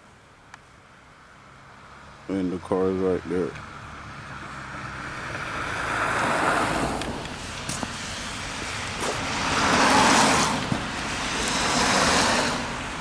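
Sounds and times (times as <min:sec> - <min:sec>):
cars passing on street: 0:00.0 - 0:13.0.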